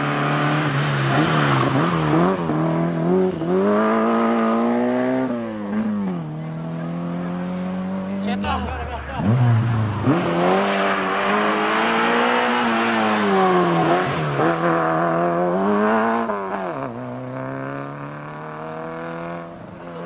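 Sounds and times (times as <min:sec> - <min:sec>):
rally car engine revving by: 0:00.0 - 0:20.0.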